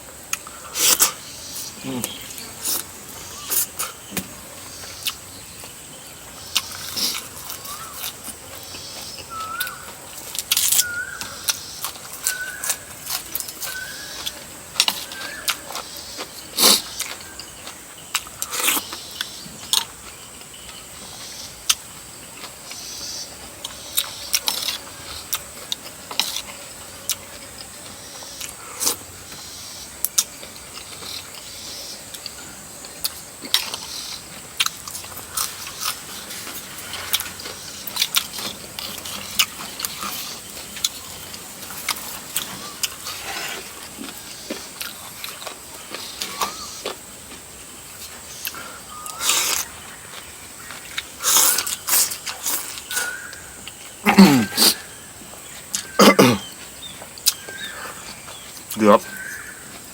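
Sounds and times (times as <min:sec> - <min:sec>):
chewing and gnawing: 0:01.8 - 0:59.9.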